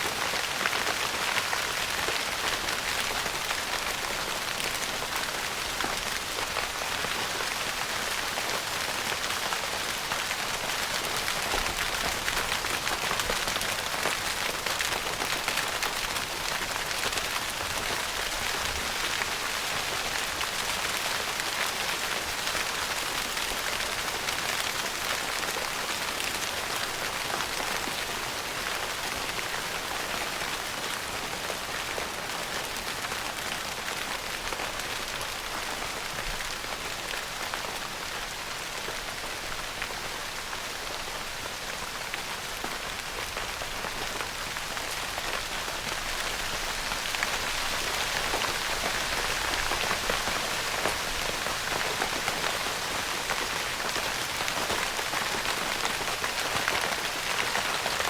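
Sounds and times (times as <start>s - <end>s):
rain pattering on tent fabric: 0.0s - 58.0s.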